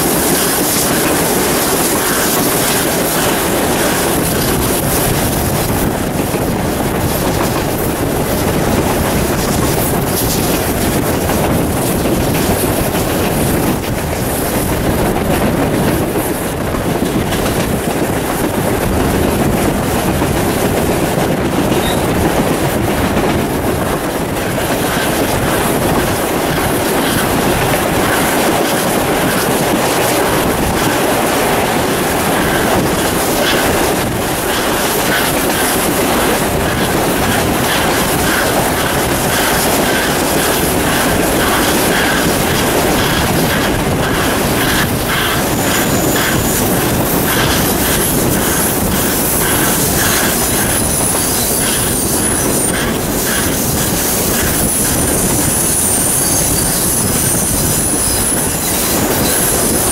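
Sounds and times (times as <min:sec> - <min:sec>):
steam locomotive working: 0:00.0 - 0:59.9
train wheels clattering on rails: 0:00.0 - 0:59.9.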